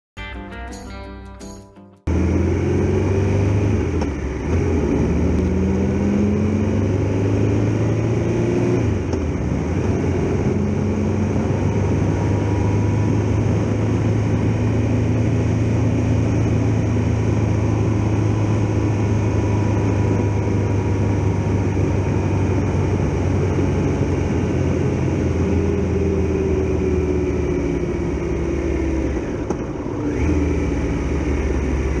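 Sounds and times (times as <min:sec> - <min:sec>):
motorcycle engine revving: 0:02.1 - 0:32.0.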